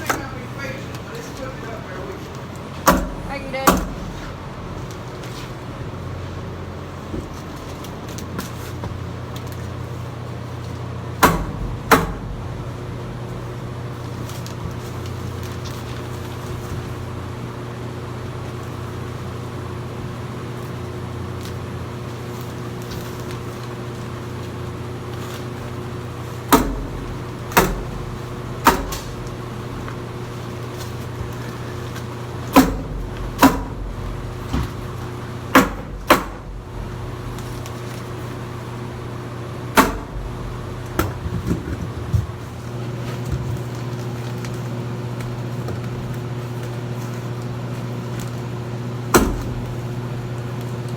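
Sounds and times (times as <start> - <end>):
steady machine hum: 0.0 - 50.9.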